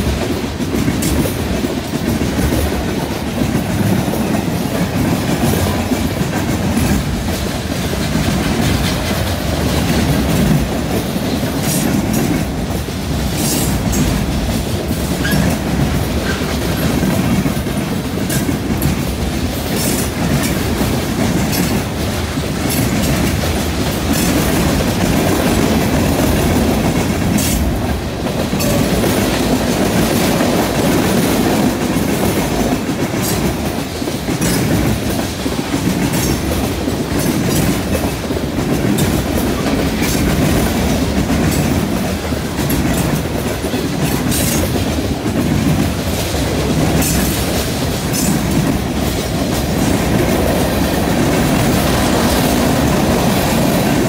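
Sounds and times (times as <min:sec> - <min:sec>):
freight train rumbling past: 0:00.0 - 0:54.0
wheel clacks on rails: 0:00.0 - 0:54.0.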